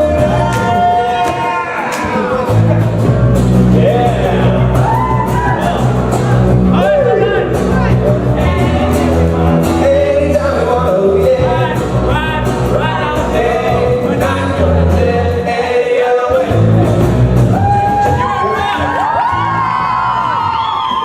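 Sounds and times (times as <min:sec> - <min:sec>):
bass guitar: 0:00.0 - 0:21.0
drums: 0:00.0 - 0:21.0.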